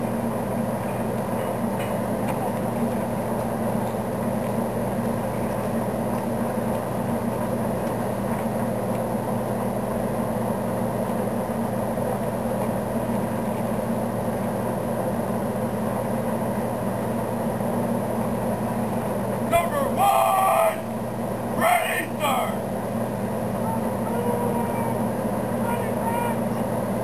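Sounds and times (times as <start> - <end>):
constant rumbling: 0.0 - 27.0
low mechanical hum: 0.0 - 27.0.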